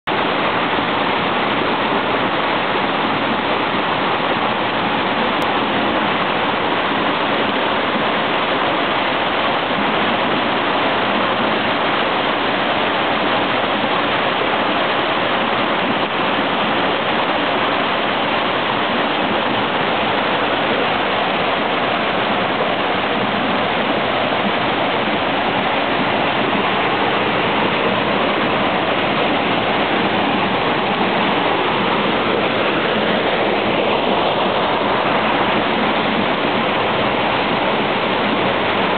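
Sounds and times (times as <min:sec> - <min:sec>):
water pouring and churning: 0:00.0 - 0:38.9.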